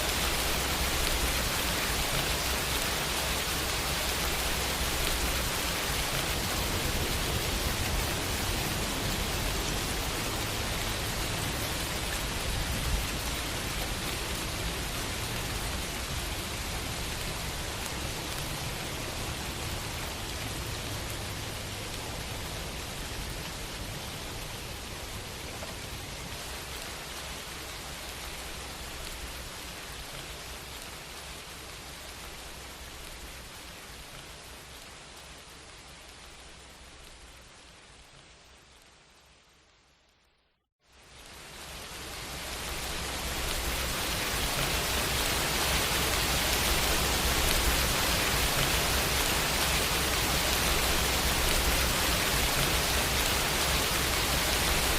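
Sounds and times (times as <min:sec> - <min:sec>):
rain on a window: 0:00.0 - 0:54.9.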